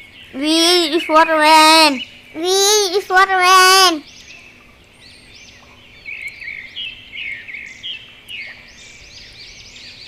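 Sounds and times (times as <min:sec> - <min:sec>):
birds chirping and twittering: 0:00.0 - 0:10.0.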